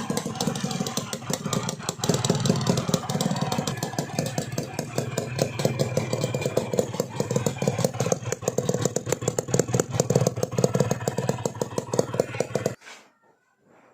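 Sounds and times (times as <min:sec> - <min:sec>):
loud motorcycle exhaust: 0:00.0 - 0:12.8.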